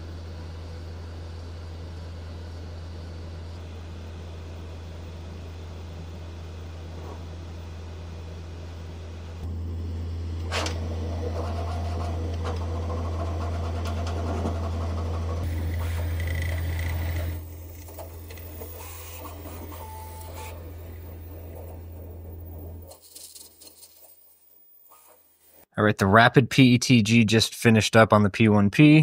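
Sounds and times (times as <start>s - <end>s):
printer humming and whirring: 0.0s - 25.6s.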